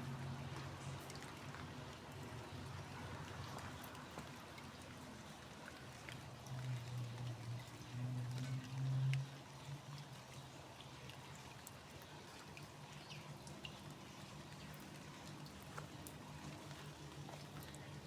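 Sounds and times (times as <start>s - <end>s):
light rain dripping: 0.0s - 18.0s.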